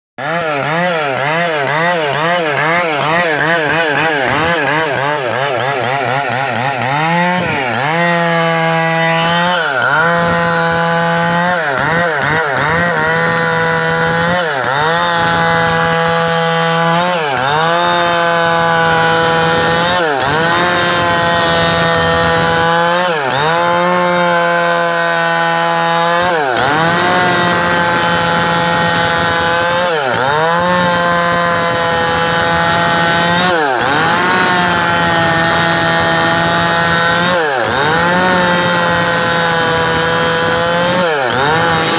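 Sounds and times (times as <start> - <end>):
chainsaw cutting wood: 0.2 - 41.9.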